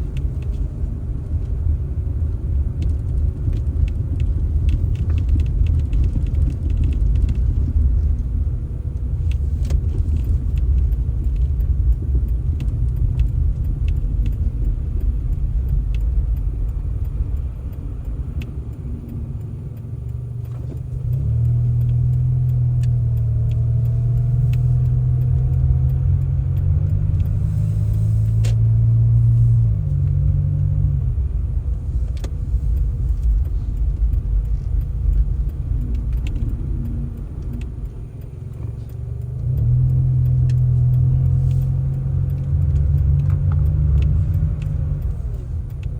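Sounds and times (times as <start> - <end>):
engine drone: 0.0 - 45.9
vehicle low rumble: 0.0 - 45.9
small clicks: 0.1 - 45.9.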